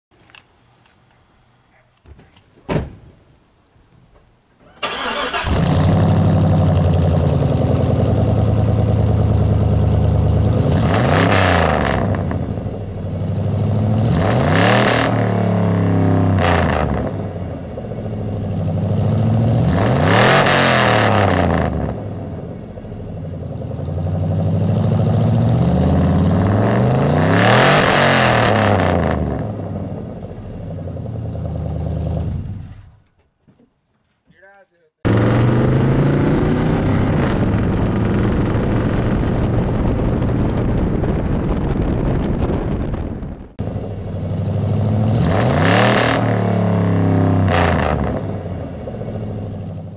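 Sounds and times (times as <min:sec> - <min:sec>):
truck engine revving: 0:04.8 - 0:33.0, 0:35.0 - 0:43.0, 0:43.6 - 0:49.9.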